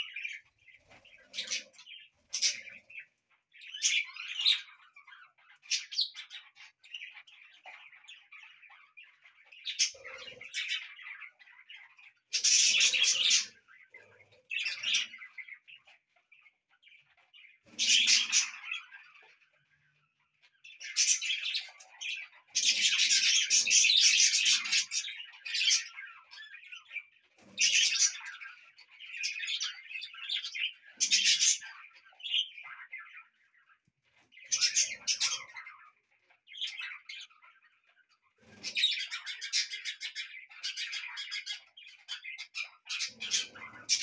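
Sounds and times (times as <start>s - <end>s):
budgerigars chirping and warbling: 0.0s - 44.0s.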